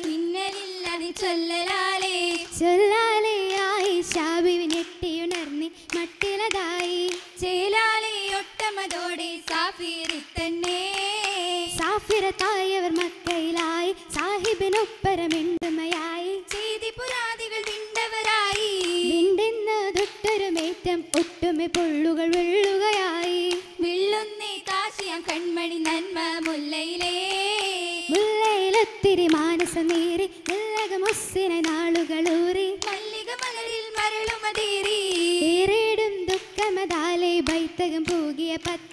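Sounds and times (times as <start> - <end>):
rhythmic hand claps: 0.0 - 38.9
women singing: 0.0 - 38.9.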